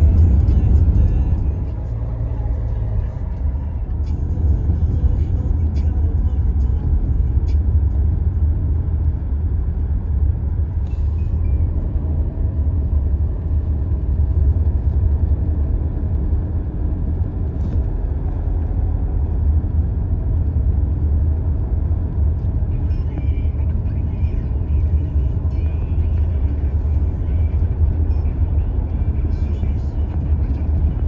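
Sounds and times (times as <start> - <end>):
car road noise: 0.0 - 31.0.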